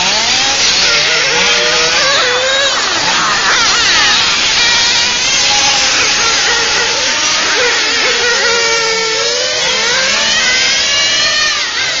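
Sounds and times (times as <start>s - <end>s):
rc car engine whining: 0.0s - 12.0s.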